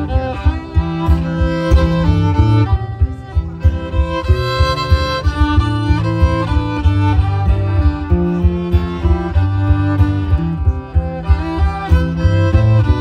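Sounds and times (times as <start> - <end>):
fiddle melody: 0.0 - 13.0
strummed acoustic guitar: 0.0 - 13.0.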